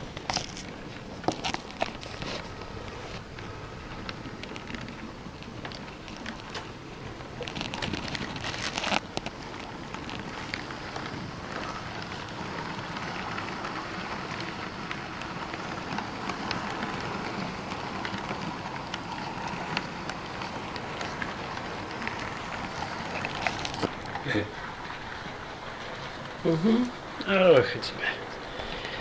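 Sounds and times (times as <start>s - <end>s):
model train rattling on track: 0.0s - 29.0s.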